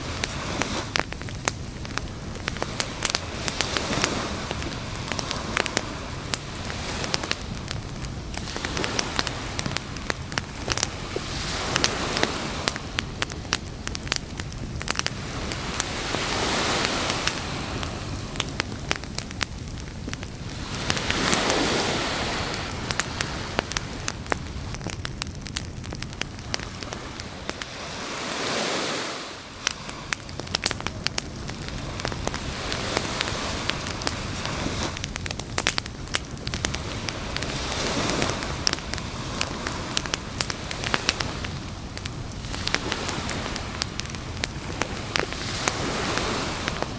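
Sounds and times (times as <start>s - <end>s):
broad rushing noise: 0.0s - 46.9s
campfire crackling and popping: 0.0s - 46.9s.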